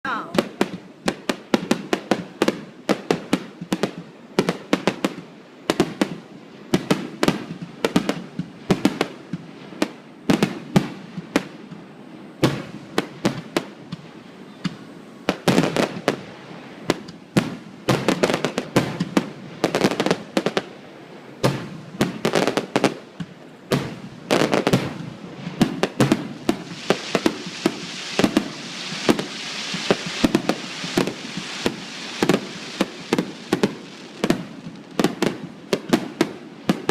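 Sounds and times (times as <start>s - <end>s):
crackling firework shower: 0.0s - 36.9s
fireworks bursting with bangs: 0.0s - 36.9s.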